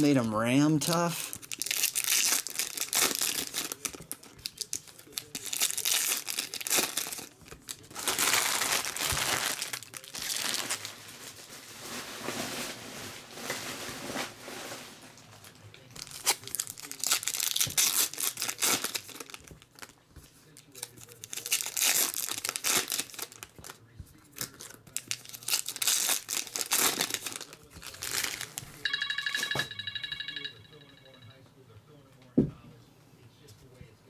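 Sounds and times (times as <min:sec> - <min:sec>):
foil wrappers crinkling and tearing: 0:00.0 - 0:28.8.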